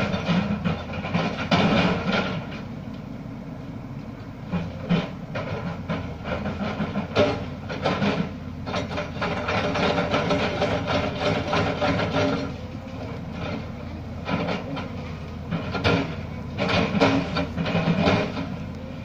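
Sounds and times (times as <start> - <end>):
excavator engine running: 0.0 - 19.0.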